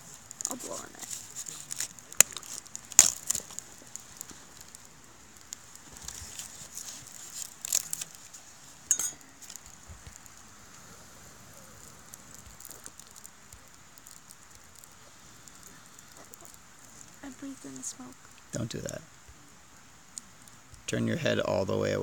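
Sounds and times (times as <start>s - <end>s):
embers crackling and ticking: 0.0s - 22.0s
sharp fire pops: 0.3s - 8.3s, 8.9s - 18.6s.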